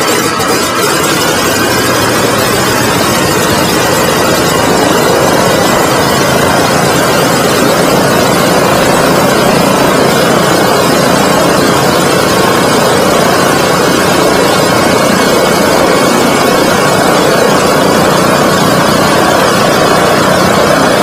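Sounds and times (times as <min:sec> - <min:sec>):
radial aircraft engines running: 0:00.0 - 0:21.0.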